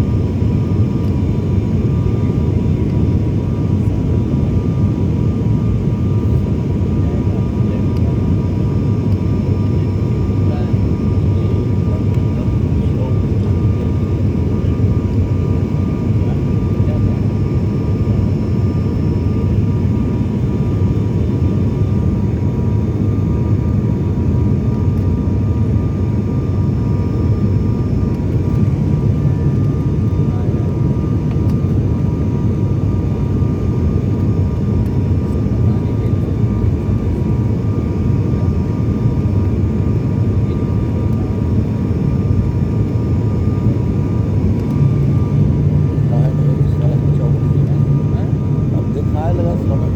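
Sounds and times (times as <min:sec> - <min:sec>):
jet airliner cabin rumble: 0:00.0 - 0:49.9.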